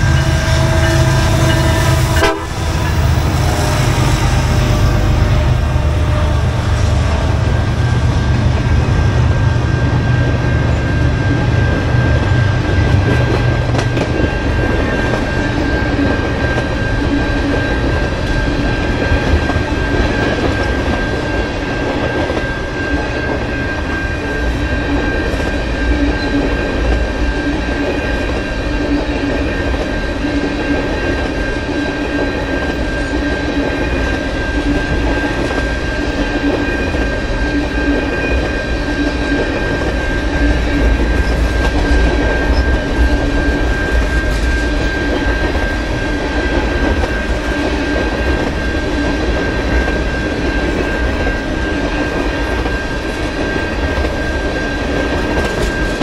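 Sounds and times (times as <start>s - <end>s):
high-pitched whine: 0.0s - 56.0s
train wheels rumbling on rails: 0.0s - 56.0s.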